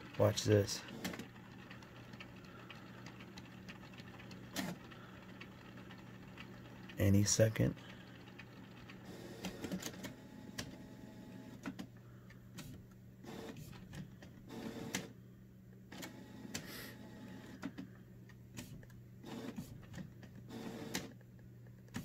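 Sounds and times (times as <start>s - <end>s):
printer mechanism whirring and clicking: 0.0s - 15.2s, 15.8s - 22.0s.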